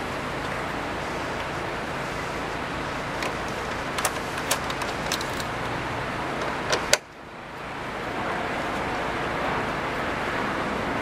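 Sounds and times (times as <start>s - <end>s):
steady rushing background: 0.0s - 11.0s.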